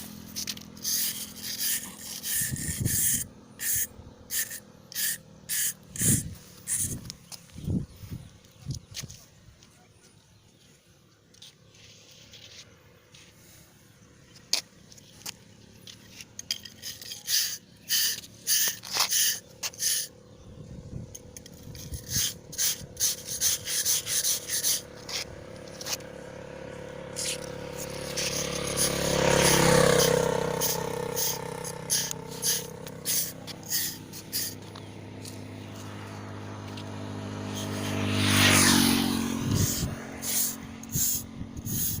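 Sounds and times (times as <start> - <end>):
tool scraping and tapping concrete: 0.0 - 7.6, 8.4 - 9.7, 14.3 - 20.2, 21.2 - 26.1, 27.1 - 42.0
passing motor vehicles: 0.0 - 42.0.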